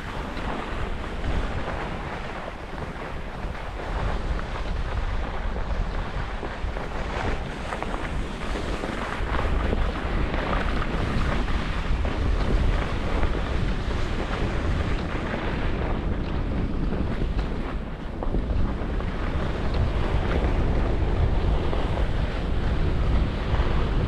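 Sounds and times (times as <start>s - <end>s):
skis scraping over snow: 0.0s - 24.0s
wind rushing over microphone: 0.0s - 24.0s.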